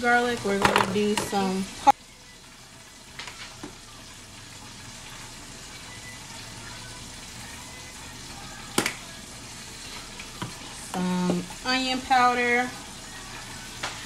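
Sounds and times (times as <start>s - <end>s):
oil sizzling in a pan: 0.0s - 14.0s
water boiling in pot: 0.0s - 14.0s.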